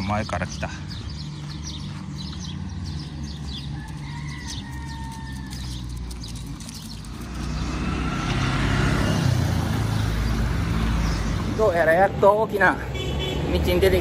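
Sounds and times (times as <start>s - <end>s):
motor vehicle passing: 0.0s - 14.0s.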